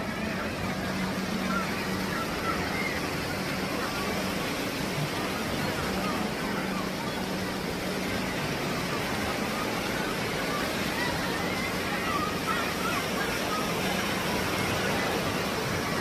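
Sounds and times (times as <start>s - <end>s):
distant crowd voices and shouts: 0.0s - 16.0s
sea surf: 0.0s - 16.0s
wind: 0.0s - 16.0s.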